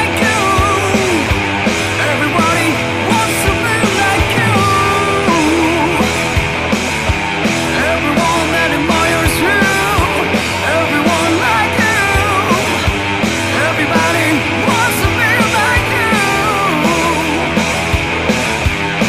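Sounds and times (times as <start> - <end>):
rock music with drums: 0.0 - 19.0.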